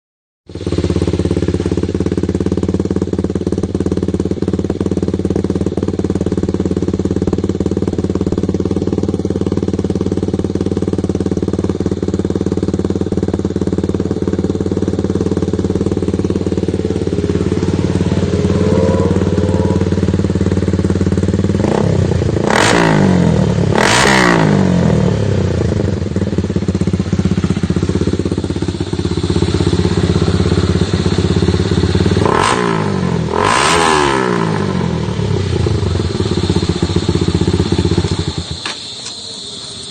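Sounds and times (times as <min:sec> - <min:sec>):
motorcycle idling: 0:00.5 - 0:39.9
motorcycle throttle blips: 0:00.5 - 0:39.9.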